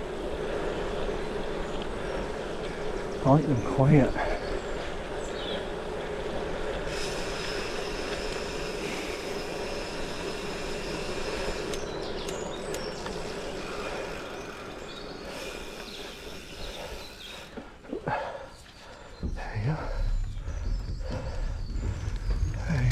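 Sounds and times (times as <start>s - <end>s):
bike tyres rolling on gravel: 0.0s - 22.9s.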